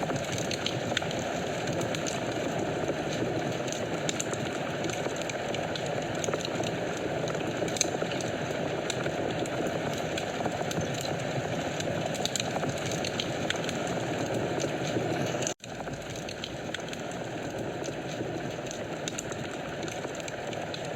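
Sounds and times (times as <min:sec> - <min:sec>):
fire crackles and pops: 0:00.0 - 0:20.9.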